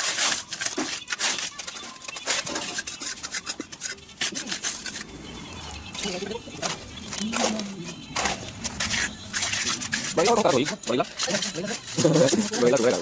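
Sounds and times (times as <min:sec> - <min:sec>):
trowel scraping and knocking bricks: 0:00.0 - 0:13.0.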